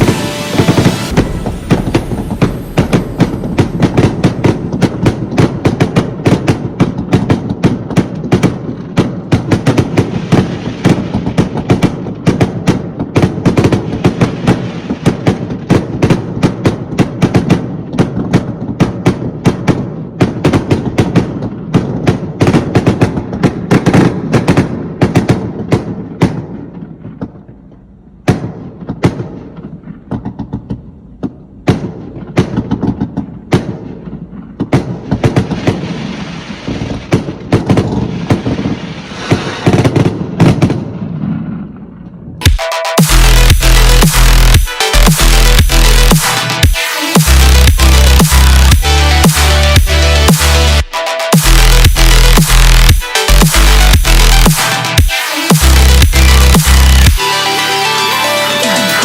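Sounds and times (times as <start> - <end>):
fireworks popping and crackling: 0.0 - 57.2.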